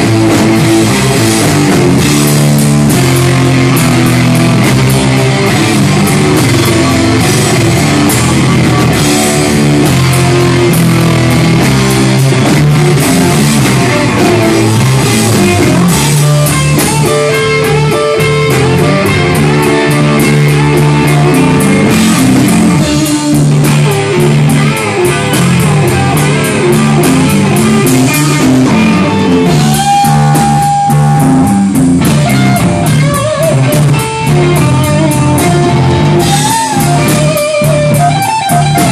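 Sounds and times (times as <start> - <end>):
loud rock music: 0.0 - 38.9.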